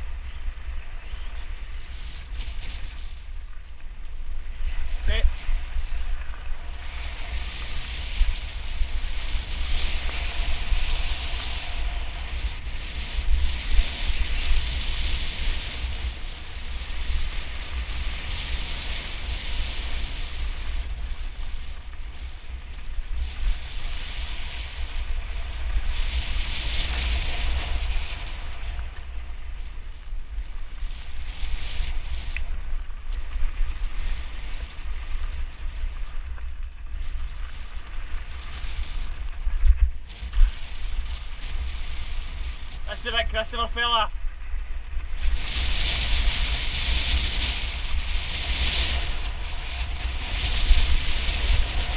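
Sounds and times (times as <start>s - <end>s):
bike tyres rolling on gravel: 0.0s - 51.9s
wind buffeting microphone: 0.0s - 51.9s.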